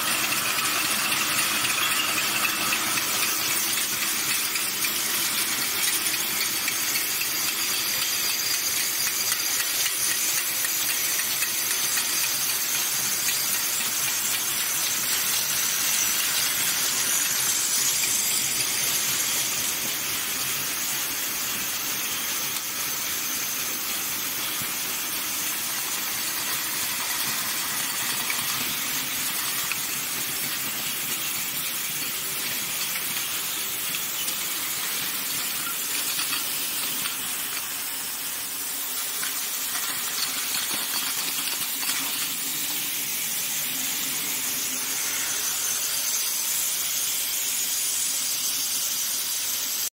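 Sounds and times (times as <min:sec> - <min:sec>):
machine line hissing: 0:00.0 - 0:49.9.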